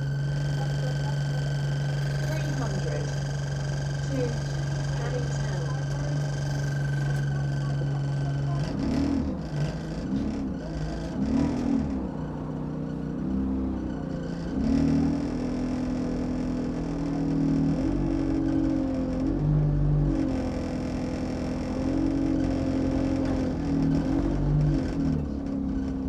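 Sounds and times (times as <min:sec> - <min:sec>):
bus engine: 0:00.0 - 0:26.0
low road rumble: 0:00.0 - 0:26.0.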